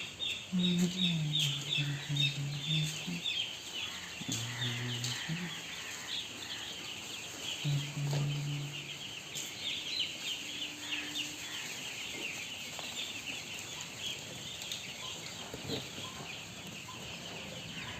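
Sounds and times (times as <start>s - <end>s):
chicks peeping: 0.0s - 17.9s.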